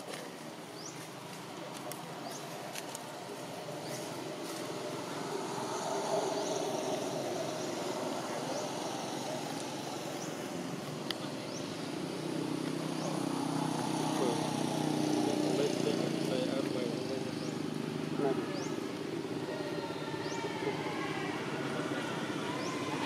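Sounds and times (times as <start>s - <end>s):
distant vehicle engine running: 0.0s - 23.0s.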